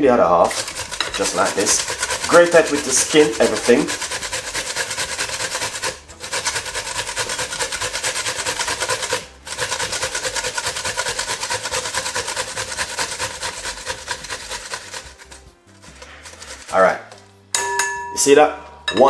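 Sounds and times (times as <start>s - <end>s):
cucumber rasping on metal grater: 0.4s - 17.2s.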